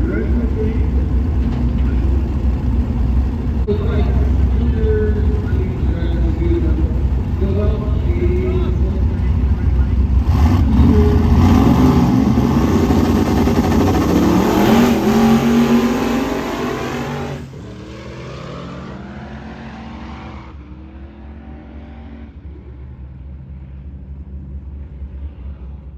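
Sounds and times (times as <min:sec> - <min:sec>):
race car engines at full throttle: 0:00.0 - 0:25.9.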